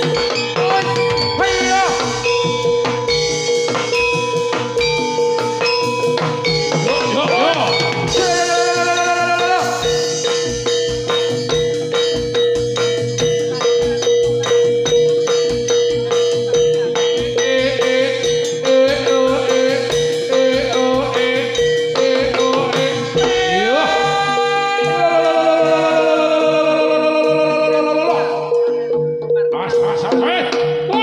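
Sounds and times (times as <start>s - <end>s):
held tone: 0.0s - 31.0s
metallophone notes: 0.0s - 31.0s
steady drum beat: 0.0s - 31.0s.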